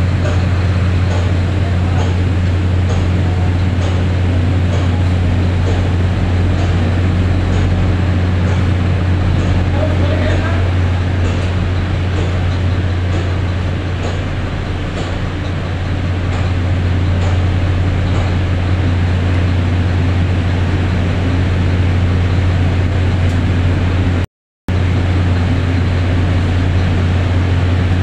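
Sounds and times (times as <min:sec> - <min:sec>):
electric pump running: 0:00.0 - 0:28.0.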